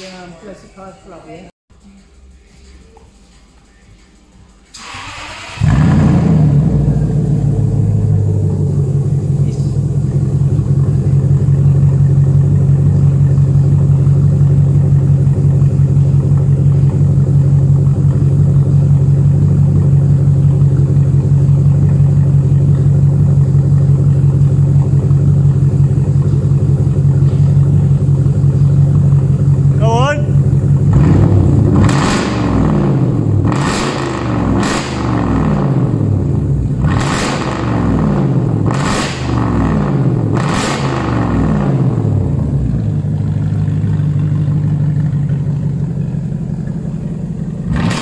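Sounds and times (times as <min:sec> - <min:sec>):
car engine starting and idling: 0:01.8 - 0:48.0.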